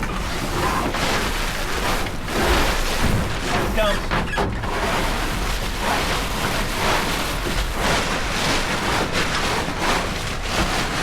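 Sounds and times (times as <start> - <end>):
water washing along a hull: 0.0 - 11.0.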